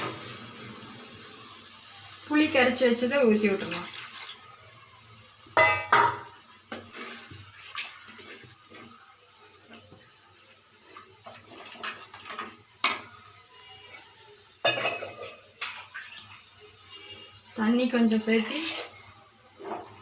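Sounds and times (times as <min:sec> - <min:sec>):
water pouring into pan: 0:00.0 - 0:20.0.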